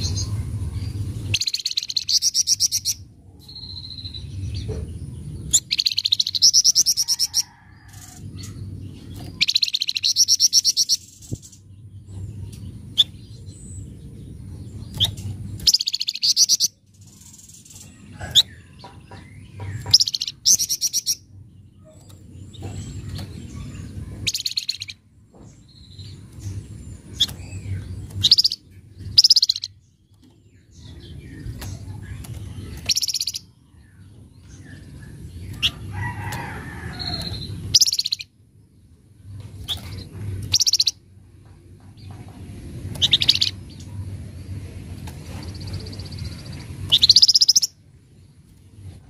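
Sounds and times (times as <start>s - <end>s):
low background rumble: 0.0s - 49.0s.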